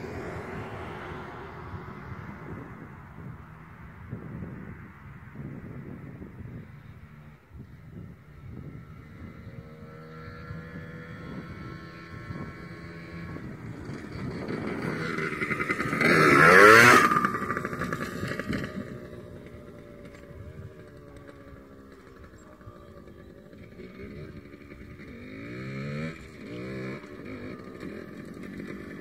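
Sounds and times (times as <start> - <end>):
dirt bike engine passing: 0.0 - 29.0.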